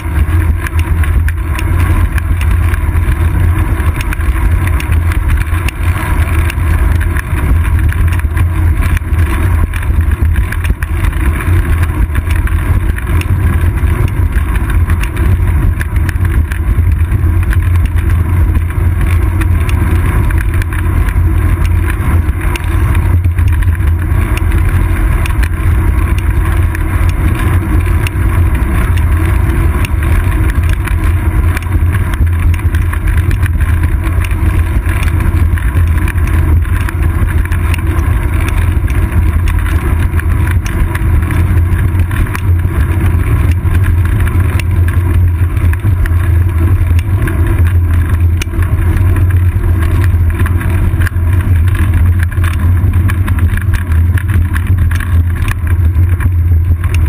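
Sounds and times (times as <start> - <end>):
deep road rumble: 0.0 - 57.0
wind noise: 0.0 - 57.0.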